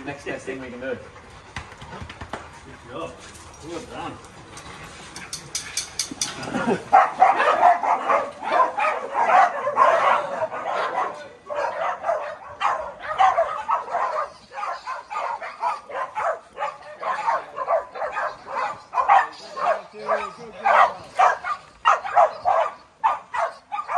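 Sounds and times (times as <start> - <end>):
dogs barking and yipping: 4.6 - 23.9.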